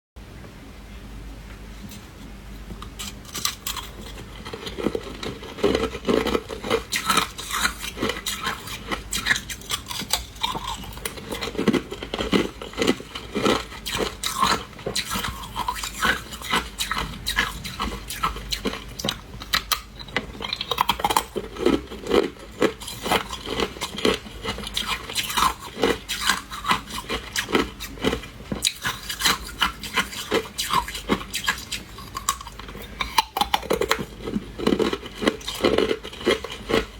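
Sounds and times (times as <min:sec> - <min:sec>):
person crunching ice: 0:03.0 - 0:36.9.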